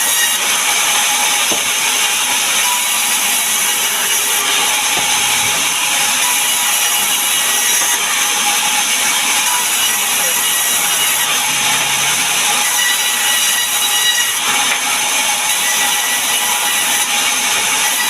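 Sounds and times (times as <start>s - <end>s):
saw cutting wood: 0.0s - 18.0s.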